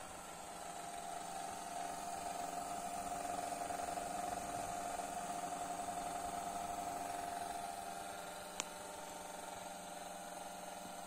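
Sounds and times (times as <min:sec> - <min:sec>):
hair dryer motor whirring: 0:00.0 - 0:11.0.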